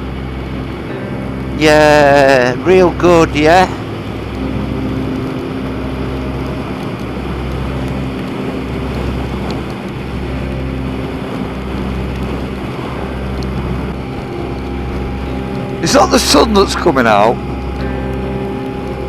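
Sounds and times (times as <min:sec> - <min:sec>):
wind rush on microphone: 0:00.0 - 0:19.0.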